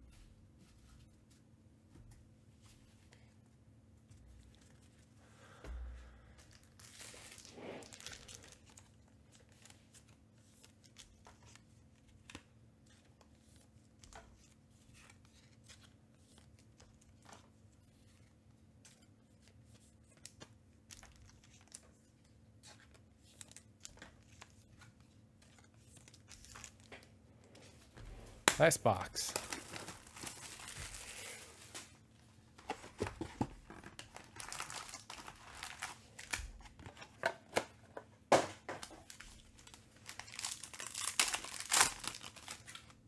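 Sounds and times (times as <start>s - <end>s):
cards and wrappers crinkling: 6.4s - 27.7s, 28.6s - 37.6s, 38.7s - 43.0s.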